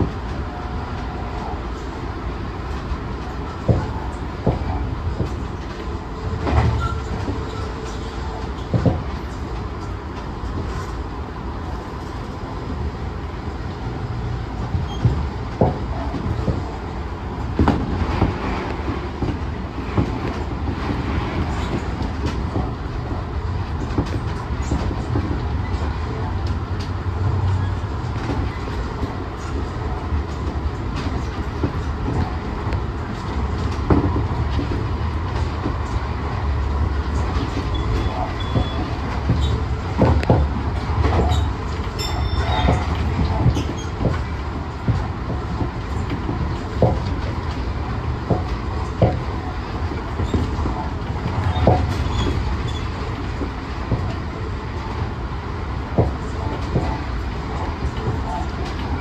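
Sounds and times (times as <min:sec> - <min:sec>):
track clacks and knocks: 0:00.0 - 0:59.0
train wheels rumbling on rails: 0:00.0 - 0:59.0.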